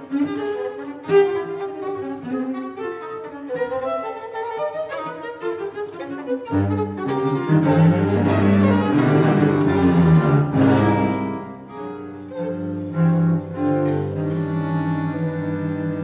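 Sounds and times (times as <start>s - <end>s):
violin and cello duo: 0.0s - 16.0s.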